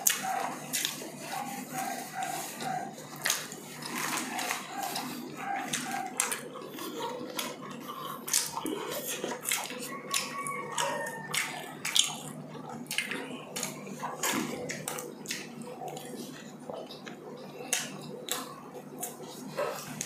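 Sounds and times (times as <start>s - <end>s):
chewing and lip smacks: 0.0s - 20.0s.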